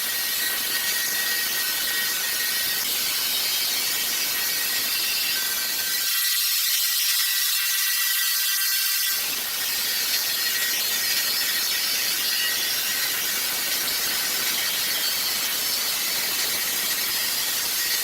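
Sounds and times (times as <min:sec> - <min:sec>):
sawmill machinery clatter: 0:00.0 - 0:08.2, 0:08.8 - 0:18.0.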